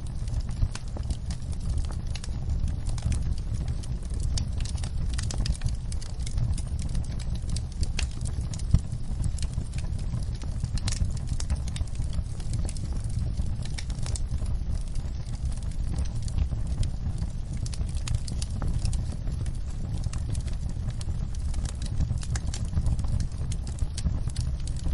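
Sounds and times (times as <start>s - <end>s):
low steady rumble: 0.0s - 24.9s
wood fire crackling and popping: 0.0s - 24.9s.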